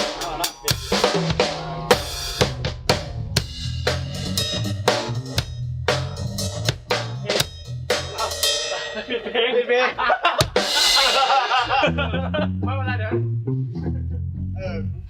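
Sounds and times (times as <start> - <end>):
bass line: 0.0 - 8.8, 11.0 - 15.0
drum kit steady beat: 0.0 - 12.7.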